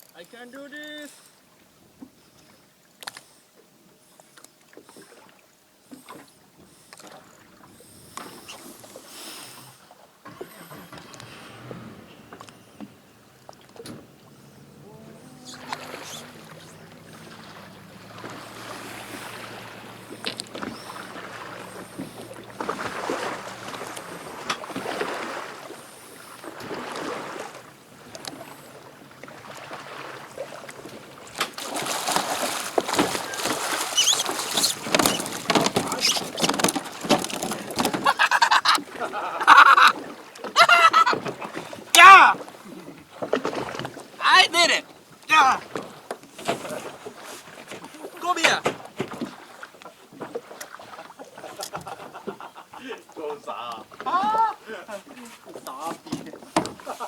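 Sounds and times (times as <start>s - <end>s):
water splashing around a kayak: 0.0s - 57.0s.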